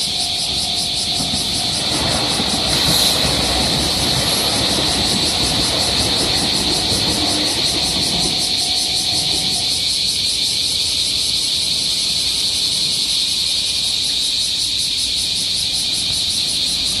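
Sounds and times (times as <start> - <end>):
faint low train hum: 0.0 - 17.0
insects shrilling: 0.0 - 17.0.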